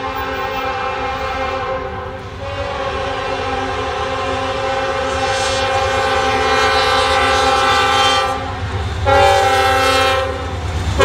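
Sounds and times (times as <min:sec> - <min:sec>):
locomotive air horn chord: 0:00.0 - 0:11.0.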